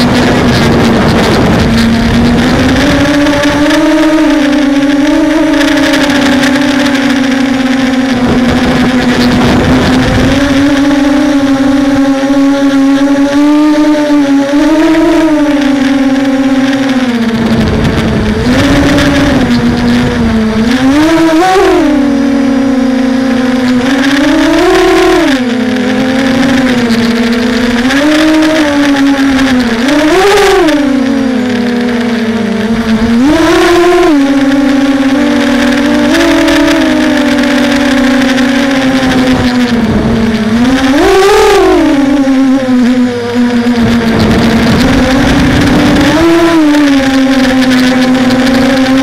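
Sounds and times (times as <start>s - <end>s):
drone propellers whining: 0.0s - 49.0s
wind rumble on microphone: 0.0s - 49.0s.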